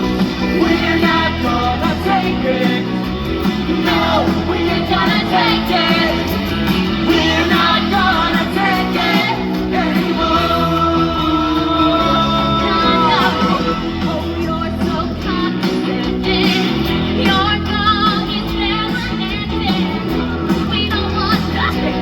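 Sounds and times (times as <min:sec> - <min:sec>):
bass guitar: 0:00.0 - 0:22.0
drums: 0:00.0 - 0:22.0
electric guitar: 0:00.0 - 0:22.0
person singing: 0:00.4 - 0:06.4, 0:07.0 - 0:22.0.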